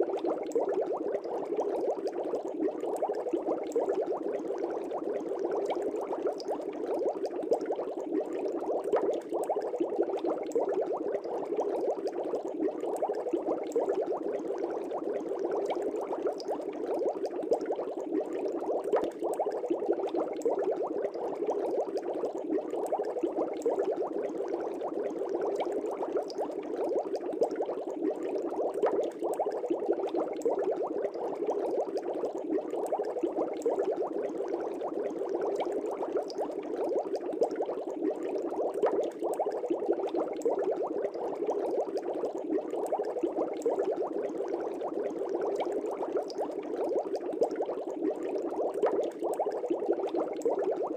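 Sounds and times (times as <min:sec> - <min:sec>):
aquarium air bubbles bubbling: 0:00.0 - 0:50.9.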